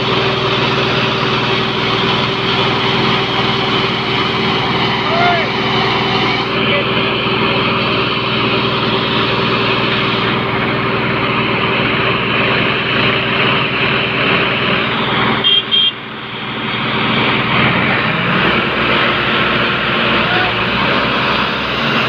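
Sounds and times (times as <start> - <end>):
tractor diesel engines under load: 0.0 - 22.0.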